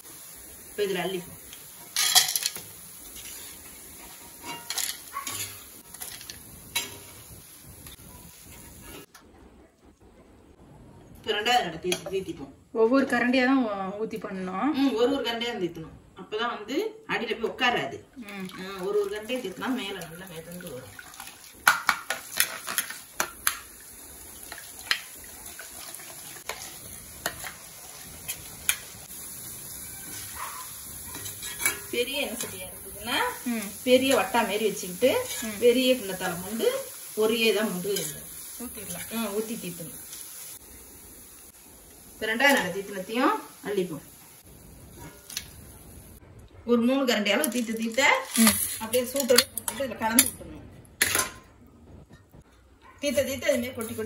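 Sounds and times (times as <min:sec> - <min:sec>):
frying in hot oil sizzle: 0:00.0 - 0:09.3, 0:16.6 - 0:46.2, 0:47.0 - 0:50.4, 0:51.0 - 0:54.0.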